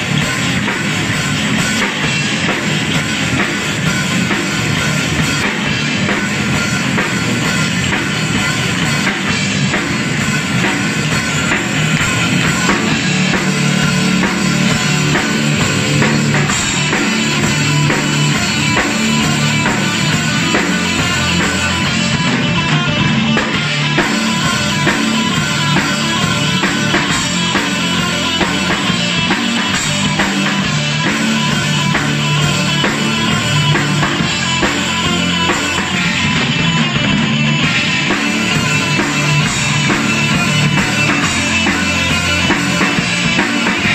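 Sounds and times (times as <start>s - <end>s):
bass guitar: 0.0s - 43.9s
distorted electric guitars: 0.0s - 43.9s
drum kit: 0.0s - 43.9s.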